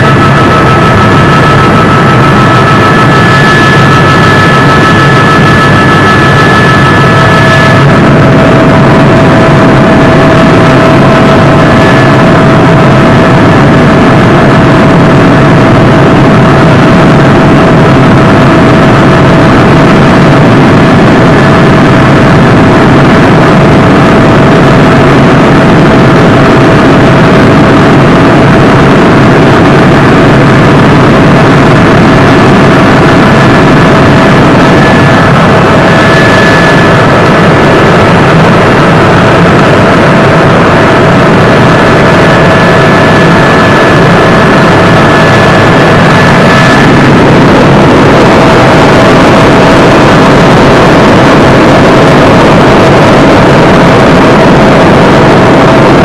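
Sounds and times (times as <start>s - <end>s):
constant whine: 0.0s - 56.0s
helicopter engine and rotor drone: 0.0s - 56.0s.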